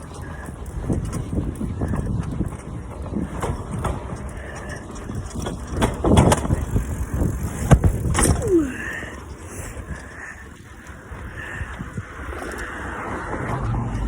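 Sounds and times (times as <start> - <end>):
bicycle knocking and rattling: 0.0 - 14.0
bicycle rumbling: 0.0 - 14.0.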